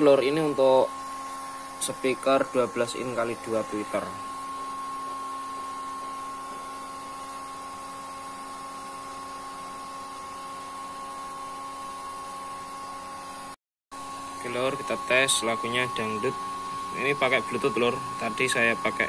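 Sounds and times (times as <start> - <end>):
amplifier electrical hum: 0.0 - 19.0.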